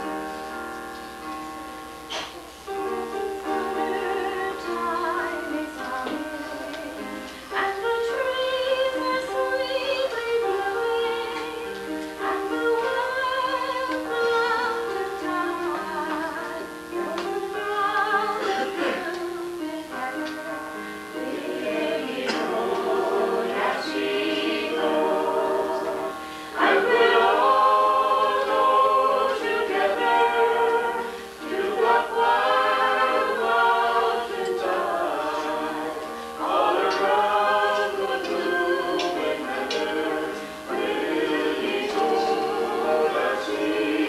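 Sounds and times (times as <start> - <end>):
group of voices singing: 3.0 - 44.0.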